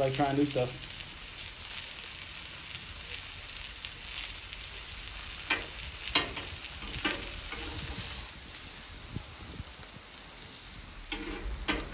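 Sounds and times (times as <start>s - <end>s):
sausages and onions sizzling: 0.0s - 11.9s.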